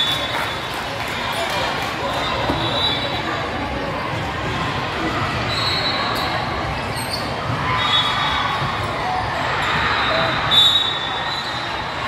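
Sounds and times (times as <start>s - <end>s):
players and spectators chattering: 0.0s - 12.0s.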